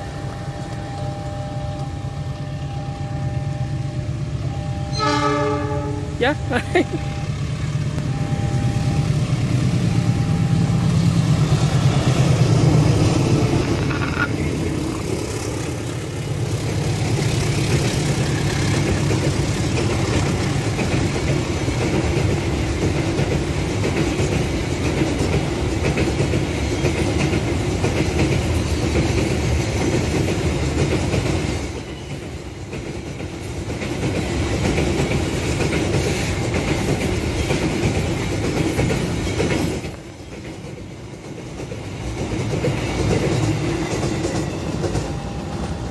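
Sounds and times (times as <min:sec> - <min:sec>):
diesel locomotive engine drone: 0:00.0 - 0:45.9
freight wagons rumbling on rails: 0:00.0 - 0:45.9.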